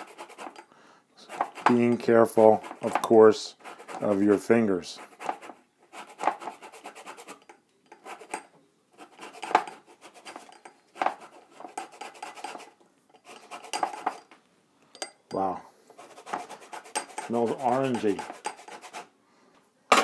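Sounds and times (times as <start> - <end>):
zester rasping orange rind: 0.0 - 8.4, 9.0 - 14.3, 15.9 - 19.1.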